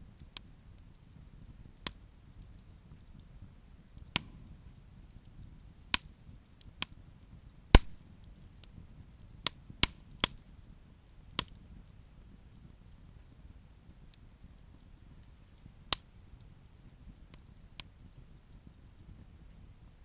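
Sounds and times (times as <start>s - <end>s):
low rush of fire: 0.0s - 20.0s
wood fire crackling and popping: 0.0s - 20.0s.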